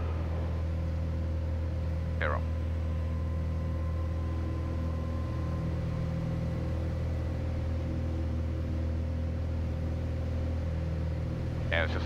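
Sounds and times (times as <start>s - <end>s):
airplane engine and propeller drone: 0.0s - 12.0s.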